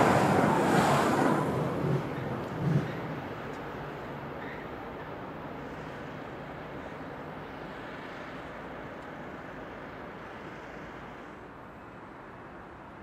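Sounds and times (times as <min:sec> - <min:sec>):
distant railway and road traffic: 0:00.0 - 0:13.0.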